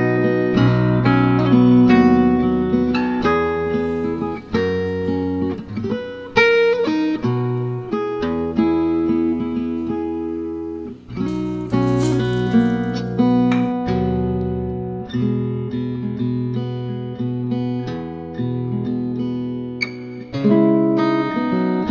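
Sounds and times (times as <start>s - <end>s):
plucked guitar music: 0.0s - 21.9s.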